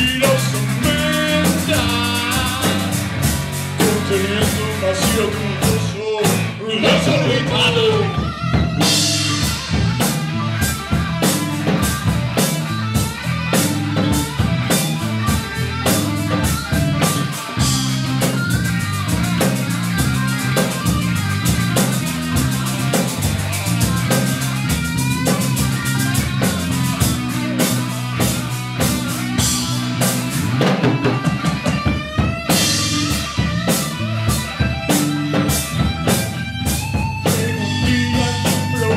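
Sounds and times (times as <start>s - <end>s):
drum kit beat: 0.0s - 38.9s
electric bass line: 0.0s - 38.9s
electric guitar: 0.0s - 38.9s.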